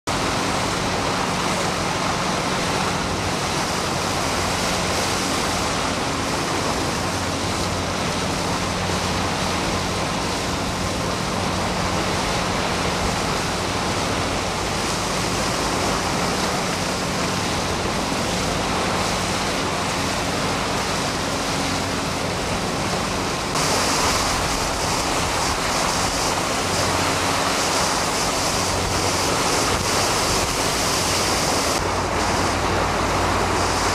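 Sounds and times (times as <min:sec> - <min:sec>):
boat engine hum: 0:00.1 - 0:33.9
choppy water: 0:00.1 - 0:33.9.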